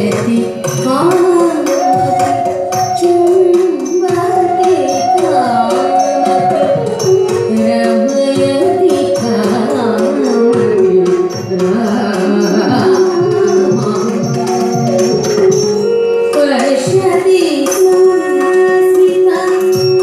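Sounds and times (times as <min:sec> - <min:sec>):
hand drum strokes: 0:00.0 - 0:19.5
person singing: 0:00.0 - 0:19.8
sustained held tones: 0:00.9 - 0:18.3.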